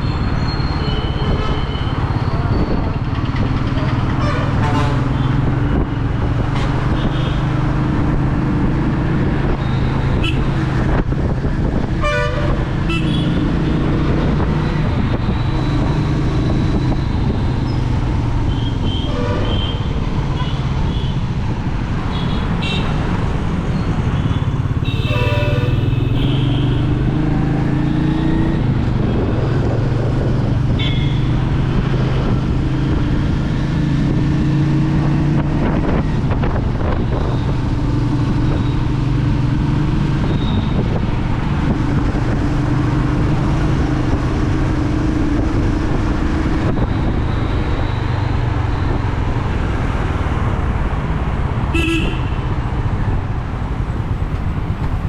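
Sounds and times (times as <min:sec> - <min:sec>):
wind noise: 0:00.0 - 0:20.2, 0:27.0 - 0:55.0
road noise: 0:00.0 - 0:55.0.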